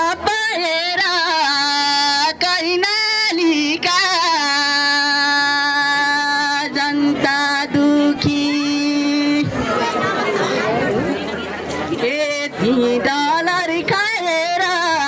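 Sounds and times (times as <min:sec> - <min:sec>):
man singing into a microphone: 0:00.0 - 0:09.7, 0:12.0 - 0:15.0.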